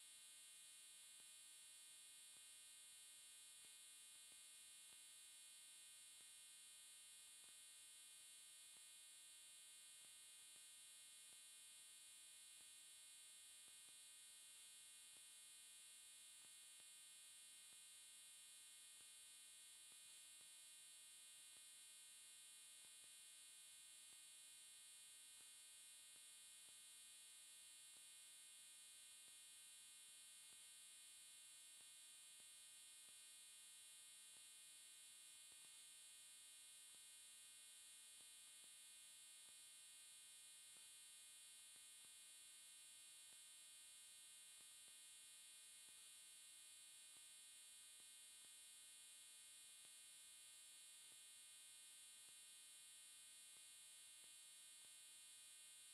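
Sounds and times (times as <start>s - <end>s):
faint electronic hum and hiss: 0.0s - 55.9s.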